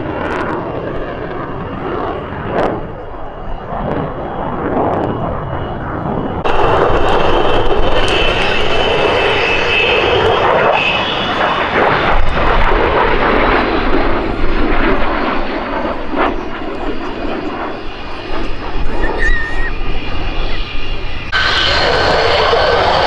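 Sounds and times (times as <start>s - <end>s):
jet engine rushing roar: 0.0s - 23.0s.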